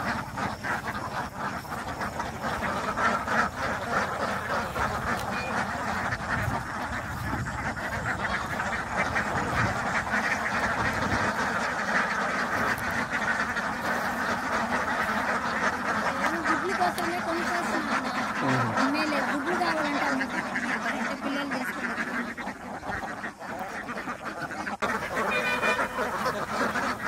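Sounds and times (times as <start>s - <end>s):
flock of ducks quacking: 0.0s - 27.0s.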